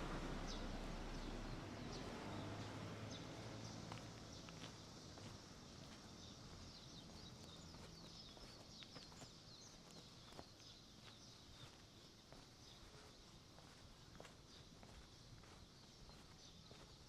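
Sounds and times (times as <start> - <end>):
small birds chirping: 0.0 - 17.0
soft footsteps: 3.3 - 17.0.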